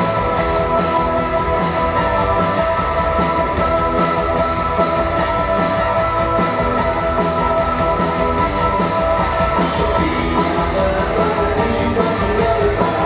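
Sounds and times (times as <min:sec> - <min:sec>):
drums and cymbals: 0:00.0 - 0:13.0
electric guitar: 0:00.0 - 0:13.0.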